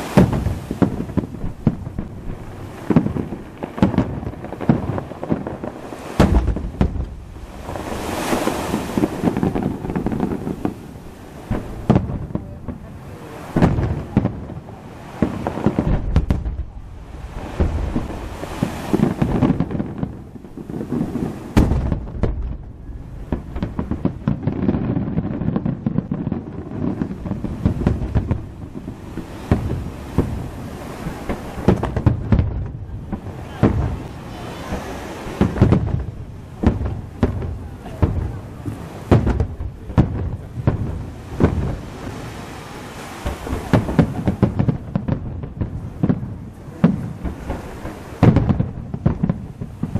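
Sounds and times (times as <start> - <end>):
crackling rumble of fireworks: 0.0 - 49.9.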